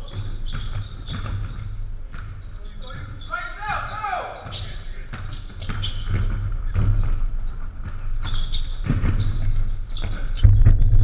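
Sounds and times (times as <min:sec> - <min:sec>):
basketball bouncing on hardwood floor: 0:00.0 - 0:03.3, 0:04.4 - 0:11.0.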